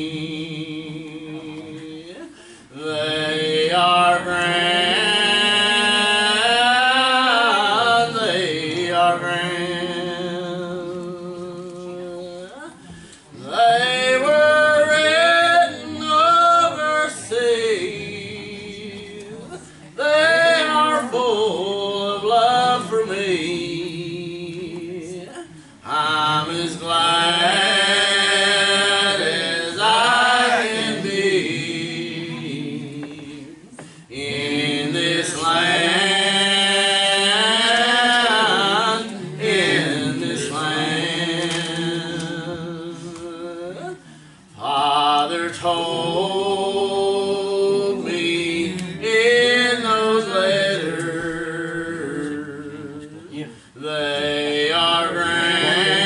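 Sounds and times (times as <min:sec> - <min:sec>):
voices singing a hymn: 0:00.0 - 0:12.6, 0:13.3 - 0:56.0.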